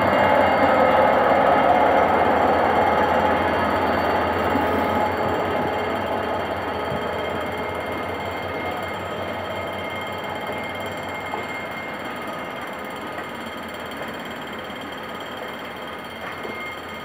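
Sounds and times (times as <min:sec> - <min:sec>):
level-crossing warning bell: 0:00.0 - 0:17.0
train wheels rumbling on track: 0:00.0 - 0:17.0.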